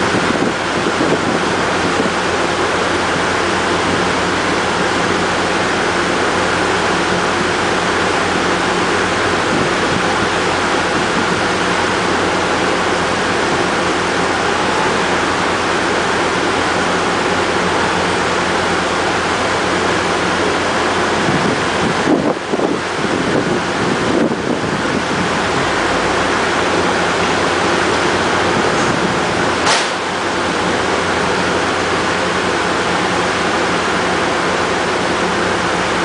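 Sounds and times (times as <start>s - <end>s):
diesel locomotive idling: 0.0s - 36.0s.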